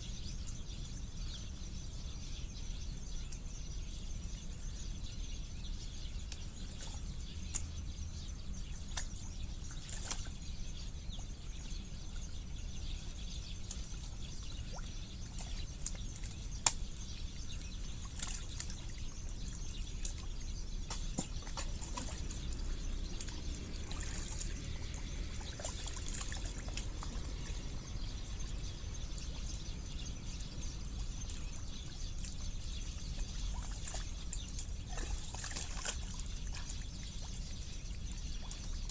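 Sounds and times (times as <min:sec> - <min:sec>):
low background rumble: 0:00.6 - 0:38.9
mud drips and squelches: 0:05.9 - 0:38.9.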